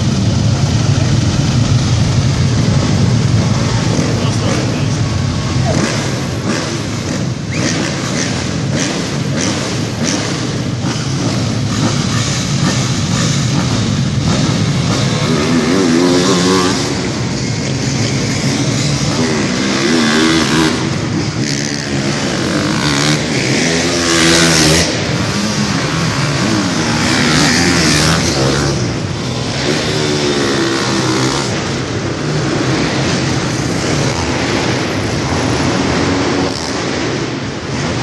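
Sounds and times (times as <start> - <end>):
dirt bike engines revving: 0.0 - 38.0.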